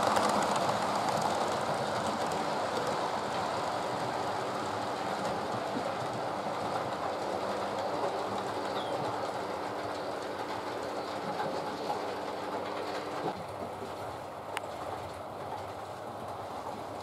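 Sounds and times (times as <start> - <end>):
model train wheels clattering on rail: 0.0 - 17.0.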